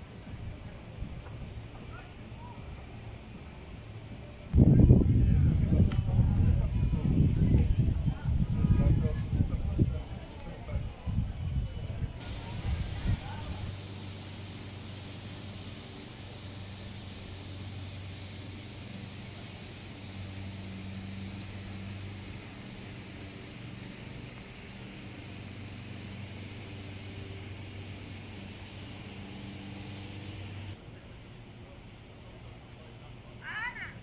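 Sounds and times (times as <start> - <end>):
even hiss: 0.0 - 34.0
low mechanical hum: 0.0 - 34.0.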